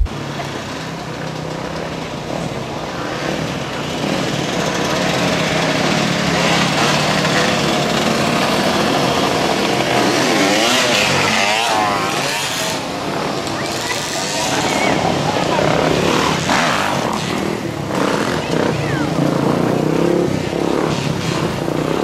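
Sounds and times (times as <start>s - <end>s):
dirt bike engines passing: 0.0s - 22.0s
engines revving: 0.0s - 22.0s
street traffic: 0.0s - 22.0s.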